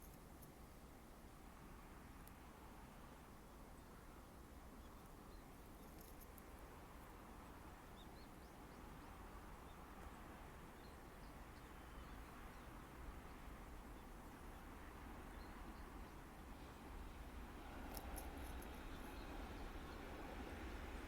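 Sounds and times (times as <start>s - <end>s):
faint low outdoor rumble: 0.0s - 21.0s.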